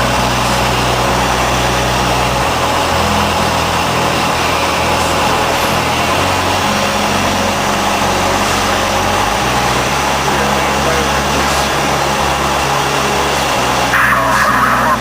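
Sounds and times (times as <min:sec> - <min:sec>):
heavy airflow noise: 0:00.0 - 0:15.0
propeller plane engine running: 0:00.0 - 0:15.0.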